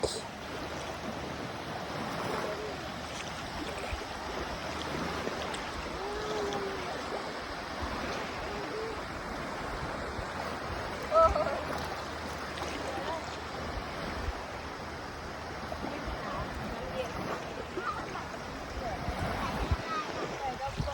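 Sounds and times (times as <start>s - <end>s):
sea waves washing on beach: 0.0s - 20.9s.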